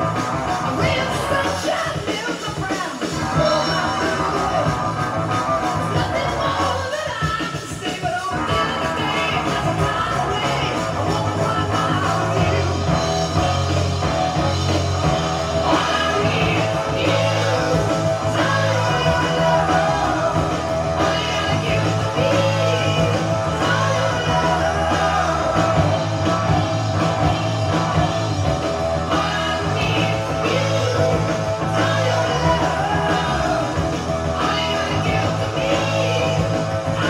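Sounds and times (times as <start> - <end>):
rock song with singing and guitar: 0.0 - 37.0.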